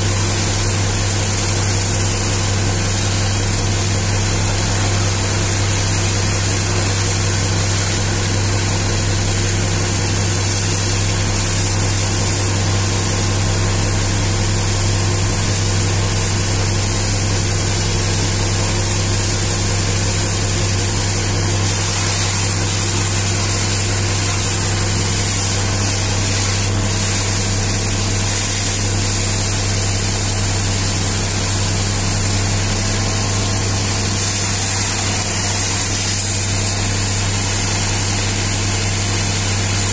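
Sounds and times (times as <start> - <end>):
engine drone: 0.0 - 39.9
water jet hissing and spattering: 0.0 - 39.9.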